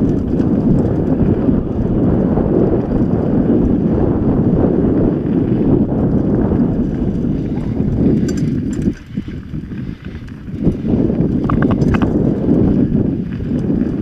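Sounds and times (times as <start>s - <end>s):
bike rattling over bumps: 0.0s - 14.0s
bike tyres rumbling on dirt: 0.0s - 14.0s
wind on microphone: 0.0s - 14.0s.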